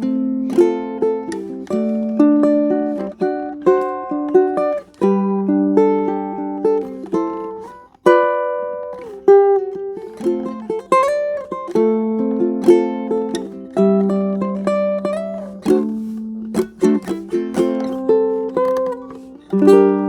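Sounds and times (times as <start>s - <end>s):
ukulele fingerpicked melody: 0.0s - 20.0s.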